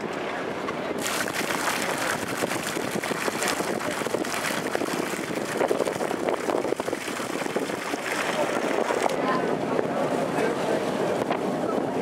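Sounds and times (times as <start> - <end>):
water rushing along hull: 0.0 - 12.0
wind on microphone: 1.0 - 12.0.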